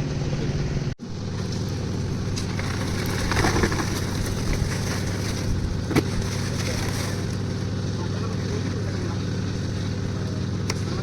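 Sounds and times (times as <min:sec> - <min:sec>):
concrete mixer engine running: 0:00.0 - 0:11.0.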